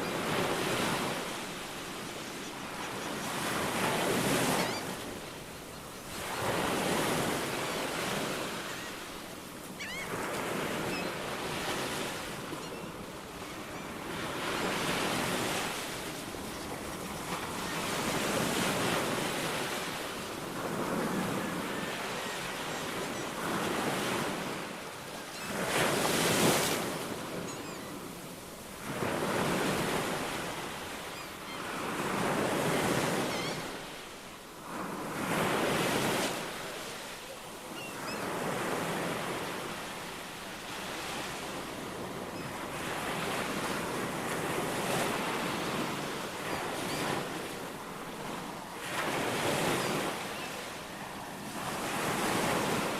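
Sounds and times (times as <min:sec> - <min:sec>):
ocean waves breaking: 0:00.0 - 0:52.9.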